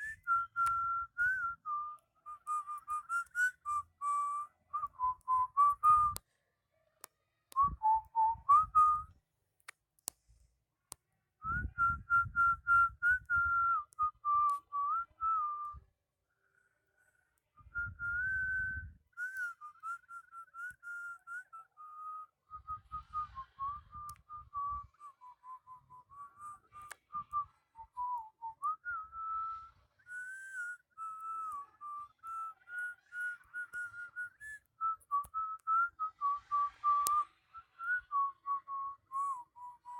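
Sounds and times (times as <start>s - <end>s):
person whistling a melody: 0.0s - 6.2s, 7.6s - 9.2s, 11.4s - 15.9s, 17.6s - 39.9s.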